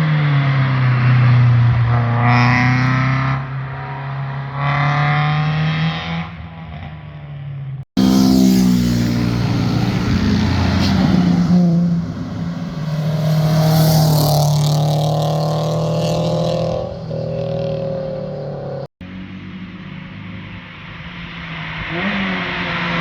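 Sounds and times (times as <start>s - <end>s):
car engine passing under hard throttle: 0.0s - 7.0s, 8.0s - 23.0s.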